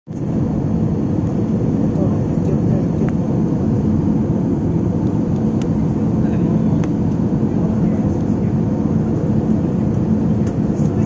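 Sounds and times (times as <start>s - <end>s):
jet engine cabin drone: 0.1s - 11.0s.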